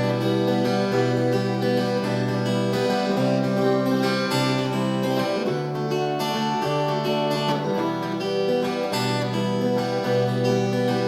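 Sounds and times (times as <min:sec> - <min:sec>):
acoustic guitar rock instrumental: 0:00.0 - 0:11.0.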